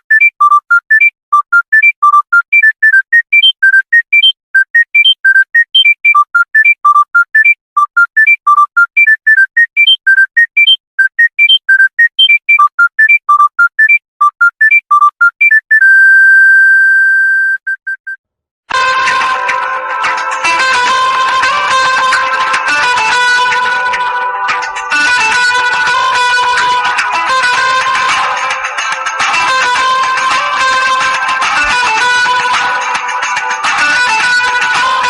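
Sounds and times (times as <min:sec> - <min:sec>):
electronic phone ringtone: 0:00.0 - 0:18.1, 0:18.7 - 0:35.0.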